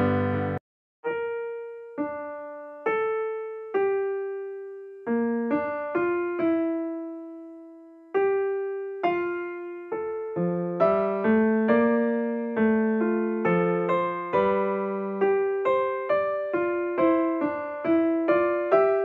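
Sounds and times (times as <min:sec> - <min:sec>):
slow solo piano melody: 0:00.0 - 0:19.0.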